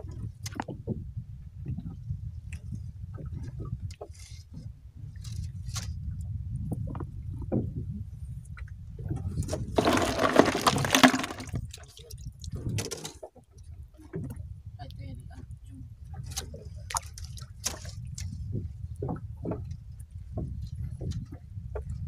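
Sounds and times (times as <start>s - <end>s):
water lapping against boat: 0.0s - 22.0s.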